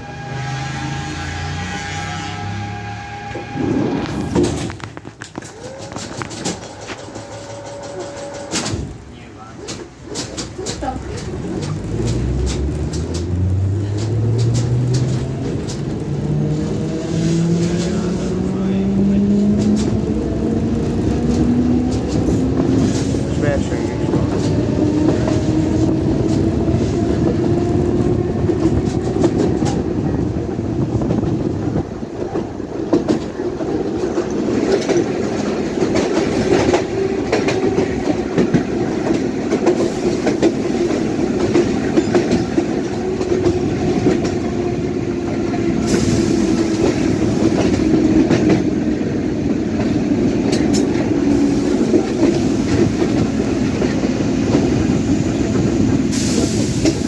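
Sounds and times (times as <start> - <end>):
train running hum and rush: 0.0 - 57.0
train wheels clacking over rail joints: 3.4 - 18.5, 19.2 - 20.1, 20.9 - 57.0.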